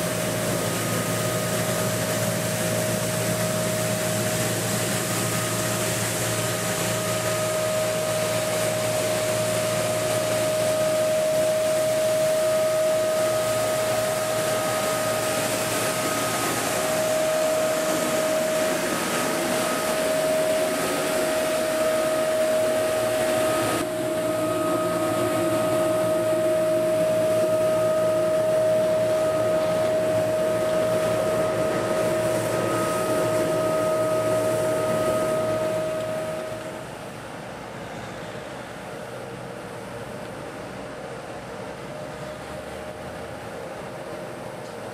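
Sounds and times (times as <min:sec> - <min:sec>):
high machine whine: 0:00.0 - 0:38.4
road sweeper machine din: 0:00.0 - 0:38.6.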